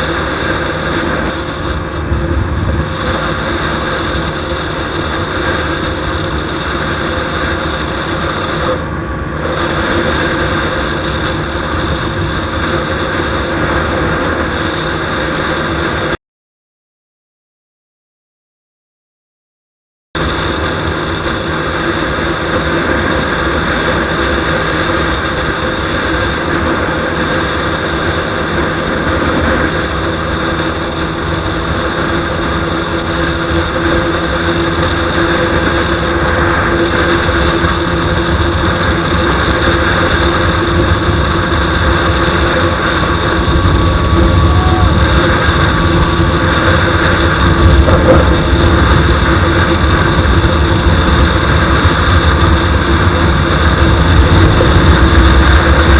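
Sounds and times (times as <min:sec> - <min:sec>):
motorcycle engine at high revs: 0:00.0 - 0:16.2, 0:20.2 - 0:55.9
wind noise on microphone: 0:00.0 - 0:16.2, 0:20.2 - 0:55.9.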